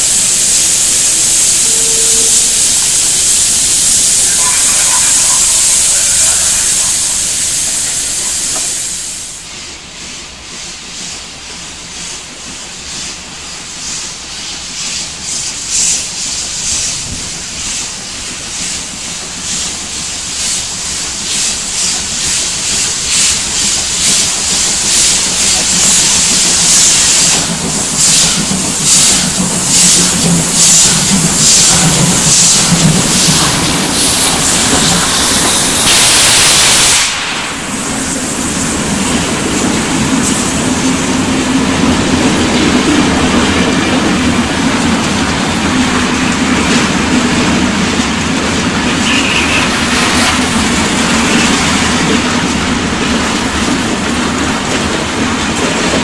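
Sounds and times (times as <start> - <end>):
steam locomotive chuffing: 0.0 - 56.0
steam venting hiss: 0.0 - 56.0.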